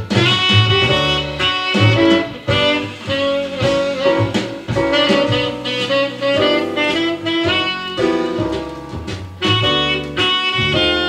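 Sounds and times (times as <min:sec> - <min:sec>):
music from vinyl record: 0:00.0 - 0:11.0.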